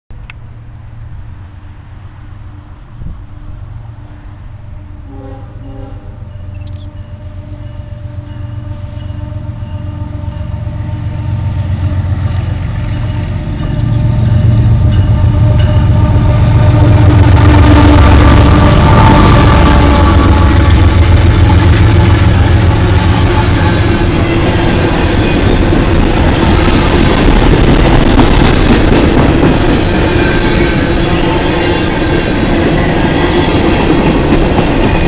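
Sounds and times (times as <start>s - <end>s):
diesel locomotive engine rumble: 0.1s - 35.0s.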